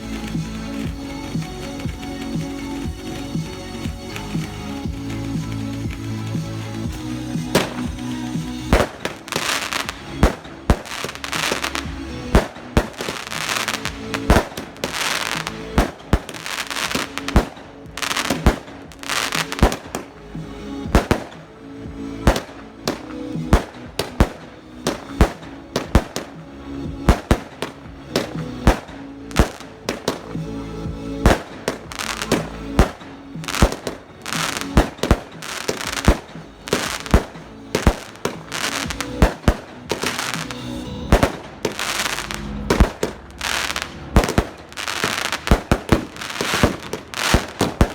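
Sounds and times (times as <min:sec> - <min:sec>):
fireworks bangs: 0:00.0 - 0:47.9
fireworks hissing and crackling: 0:00.0 - 0:47.9.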